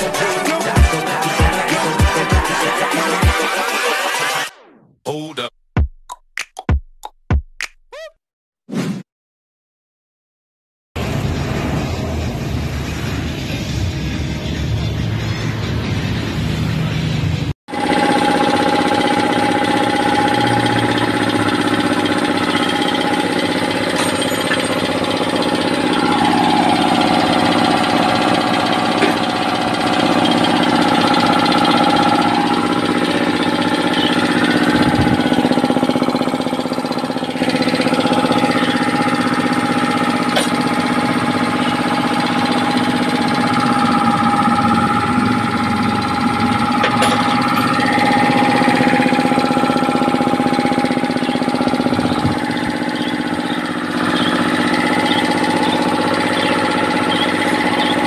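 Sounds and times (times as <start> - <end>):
air compressor droning: 0.0 - 4.4, 11.0 - 58.0.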